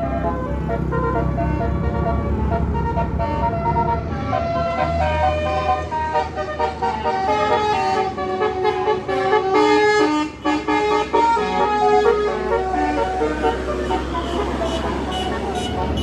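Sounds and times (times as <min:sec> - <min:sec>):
multi-tone musical bus horn: 0:00.0 - 0:16.0.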